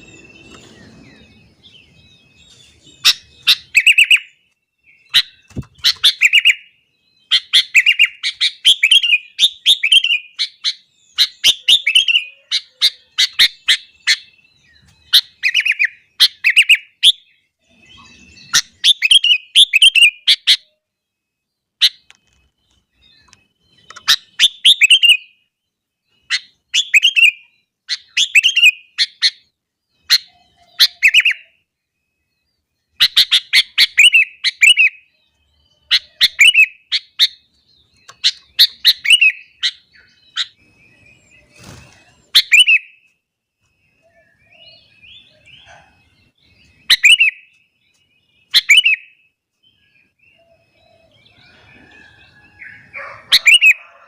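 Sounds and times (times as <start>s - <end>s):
bulbul singing: 0.0s - 54.0s.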